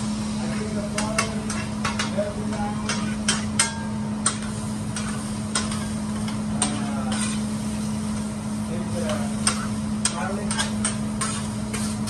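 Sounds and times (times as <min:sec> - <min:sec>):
spatulas clicking on griddle: 0:00.5 - 0:07.4, 0:09.0 - 0:12.0.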